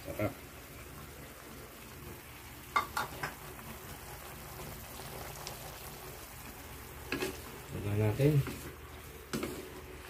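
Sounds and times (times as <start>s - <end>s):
stir-fry sizzling in a wok: 0.0s - 10.0s.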